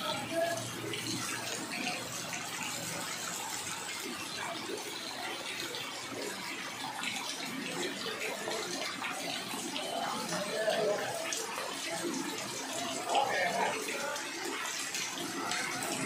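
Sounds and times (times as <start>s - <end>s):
rain on floodwater: 0.0s - 16.0s.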